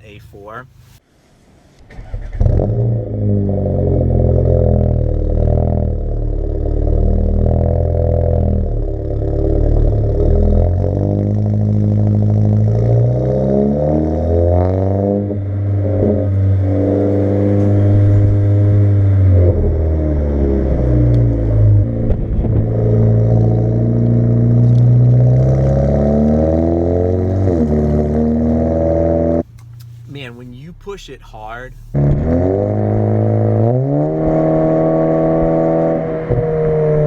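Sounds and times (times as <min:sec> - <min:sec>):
car exhaust accelerating: 0:02.4 - 0:30.1, 0:31.9 - 0:37.0.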